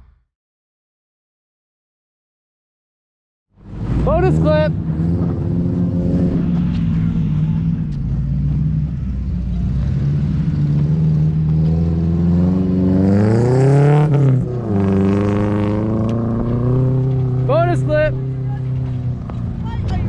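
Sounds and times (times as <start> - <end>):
pickup engine revving: 3.6 - 20.0.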